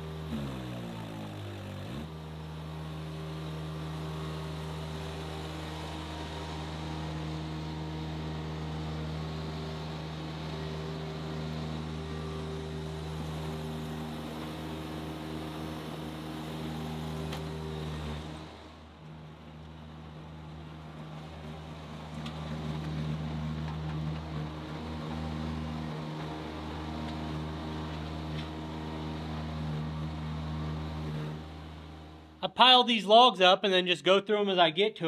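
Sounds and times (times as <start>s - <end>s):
loader engine running: 0.0s - 33.2s.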